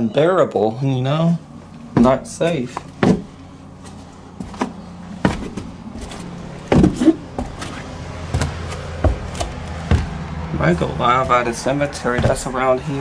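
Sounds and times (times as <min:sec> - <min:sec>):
footsteps on wooden stairs: 0:01.1 - 0:13.0
wooden boards creaking: 0:01.7 - 0:13.0.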